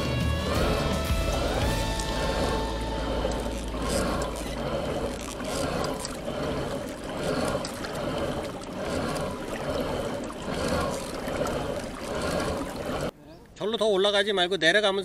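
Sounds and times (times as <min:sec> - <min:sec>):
water splashing along kayak hull: 0:00.0 - 0:13.1.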